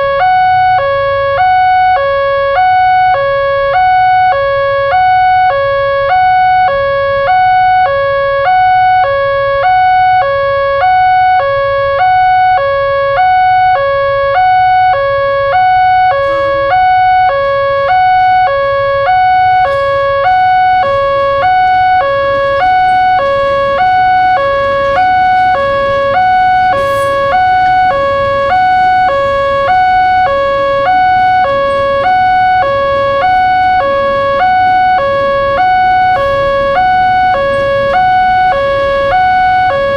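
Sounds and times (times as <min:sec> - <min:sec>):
two-tone railroad crossing alarm: 0:00.0 - 0:39.9.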